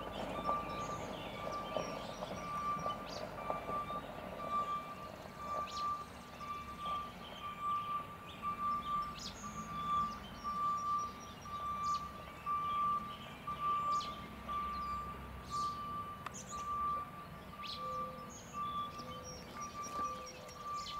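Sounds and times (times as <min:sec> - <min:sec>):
birds chirping: 0:00.0 - 0:20.9
high steady beeps: 0:03.5 - 0:20.9.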